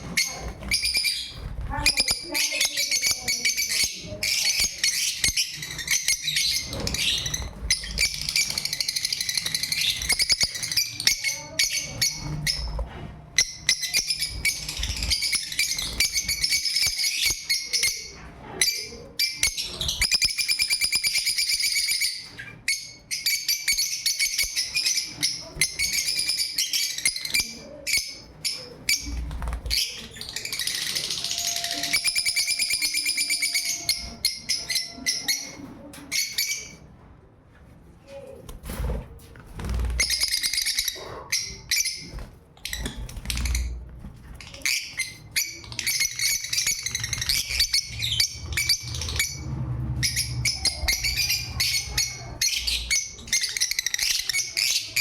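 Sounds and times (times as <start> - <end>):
lovebirds chirping: 0.0 - 36.8, 39.6 - 55.0.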